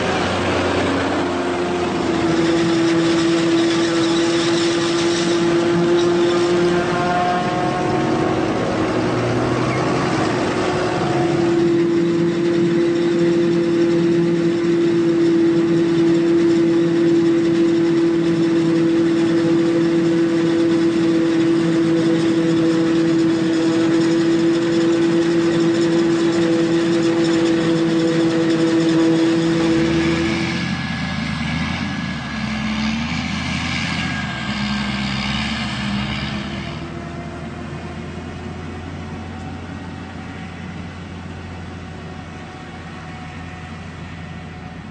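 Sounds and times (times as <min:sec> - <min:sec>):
farm machinery engine humming: 0:00.0 - 0:44.9
steady machine whine: 0:00.0 - 0:44.9.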